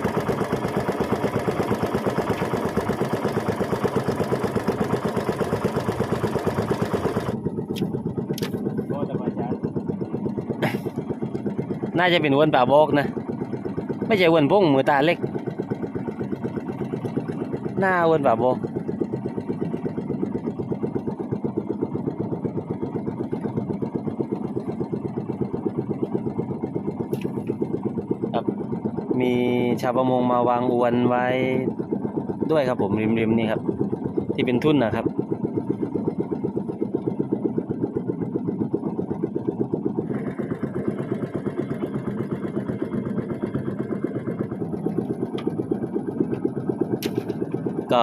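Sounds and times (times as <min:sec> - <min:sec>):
small boat engine running: 0:00.0 - 0:48.0.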